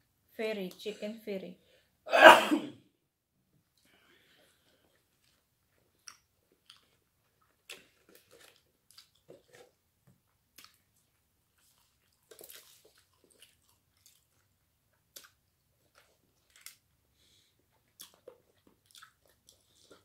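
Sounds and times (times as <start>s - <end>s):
chewing crispy food: 3.7s - 20.0s.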